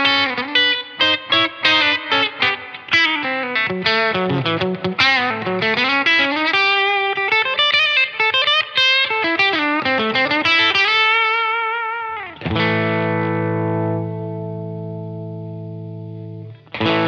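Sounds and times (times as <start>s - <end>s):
electric guitar chord ringing: 0.0s - 17.0s
electric guitar lead line: 0.0s - 17.0s.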